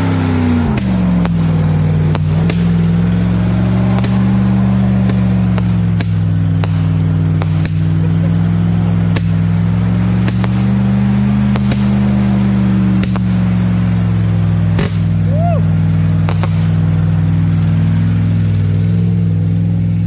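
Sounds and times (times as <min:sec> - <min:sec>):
fireworks cracking: 0:00.0 - 0:19.1
truck engine running: 0:00.0 - 0:20.0.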